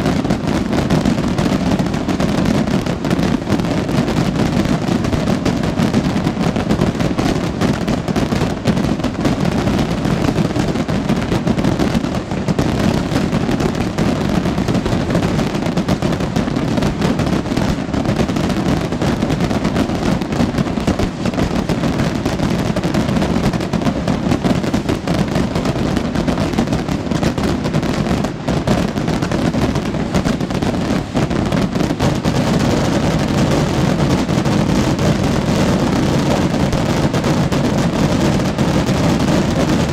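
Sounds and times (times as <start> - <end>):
firework rockets exploding: 0.0 - 39.9.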